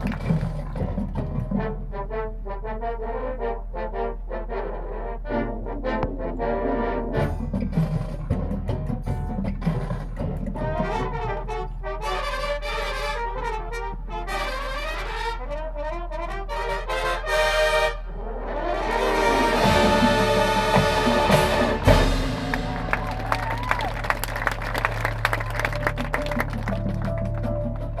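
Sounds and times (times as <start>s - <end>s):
marching band brass playing: 0.0s - 28.0s.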